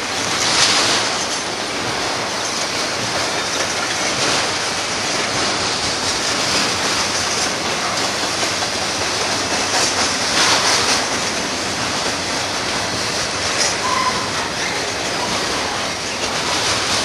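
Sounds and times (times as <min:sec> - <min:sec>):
freight train wheels rushing on rail: 0:00.0 - 0:17.0.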